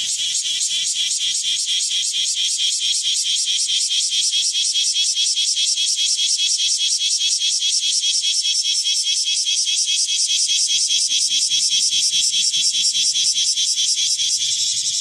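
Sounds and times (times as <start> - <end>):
cicada buzzing call: 0.0 - 15.0.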